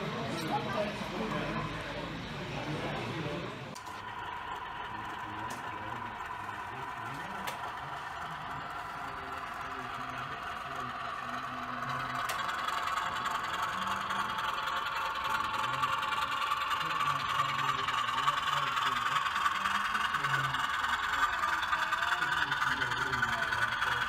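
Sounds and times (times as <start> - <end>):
model diesel engine sound: 0.0 - 24.0
murmur of voices: 0.0 - 24.0.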